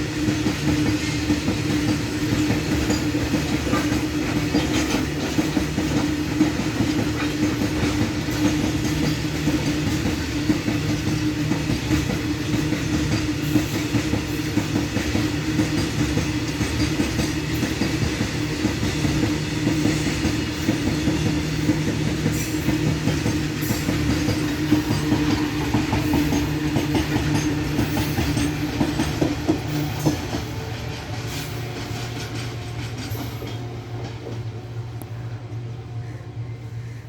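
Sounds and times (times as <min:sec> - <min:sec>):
freight train rolling past: 0:00.0 - 0:37.0
wheels clattering over rail joints: 0:00.3 - 0:34.6.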